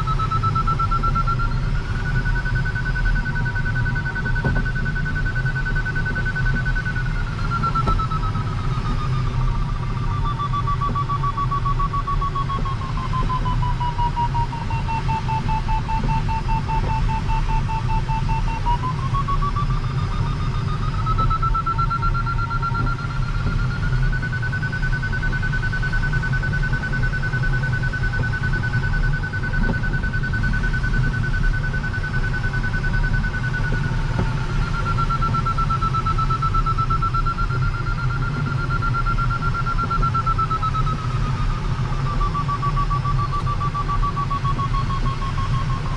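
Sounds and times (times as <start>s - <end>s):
variometer beeping: 0.0s - 45.9s.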